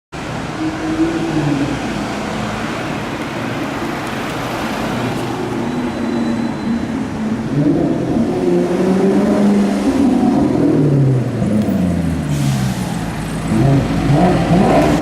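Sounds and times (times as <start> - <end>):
street traffic hiss: 0.2 - 15.0.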